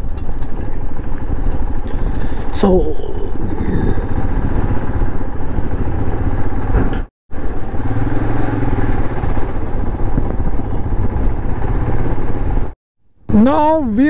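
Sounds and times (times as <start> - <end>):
wind noise on microphone: 0.0 - 7.1, 8.0 - 12.8
motorcycle engine running: 0.0 - 13.9.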